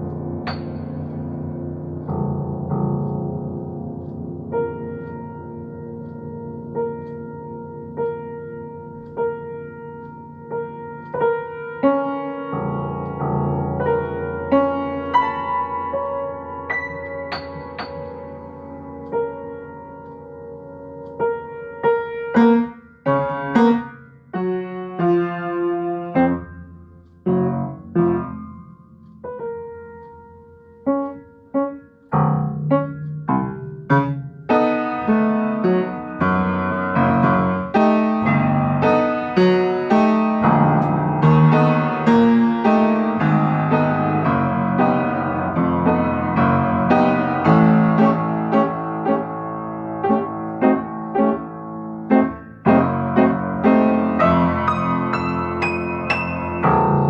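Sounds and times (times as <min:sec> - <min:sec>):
solo piano improvisation: 0:00.0 - 0:57.0.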